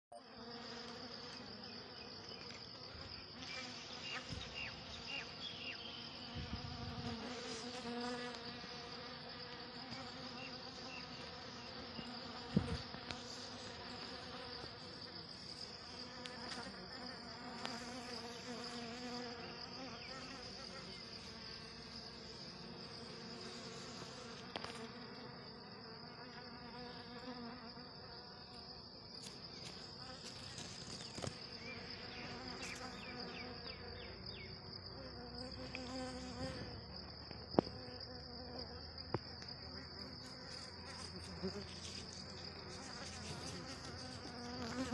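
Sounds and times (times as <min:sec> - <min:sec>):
honeybees buzzing: 0:00.2 - 0:44.9.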